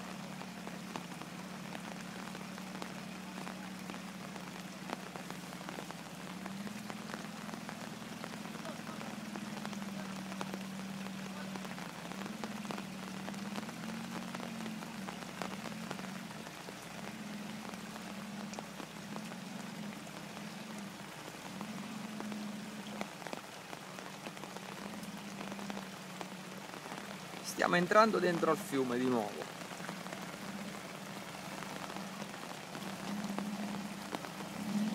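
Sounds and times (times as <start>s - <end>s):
rain patter: 0.0s - 34.9s.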